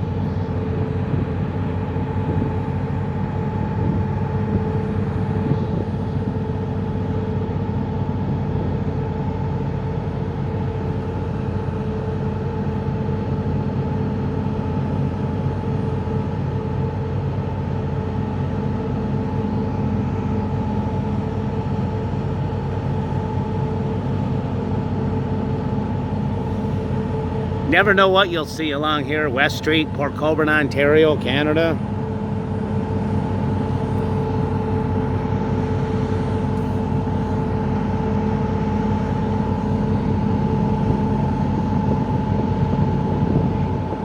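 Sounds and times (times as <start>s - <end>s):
engine running with whine: 0.0s - 44.0s.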